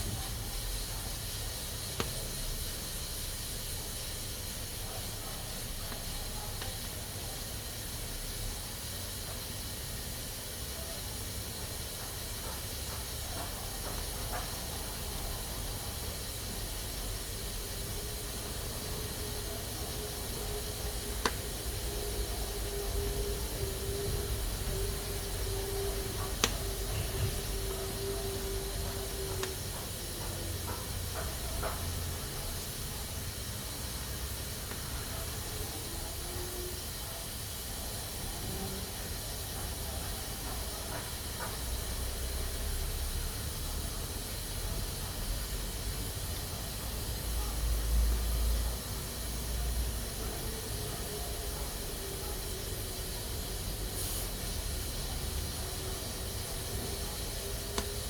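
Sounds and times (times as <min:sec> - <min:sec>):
pressure cooker hissing: 0:00.0 - 0:58.0.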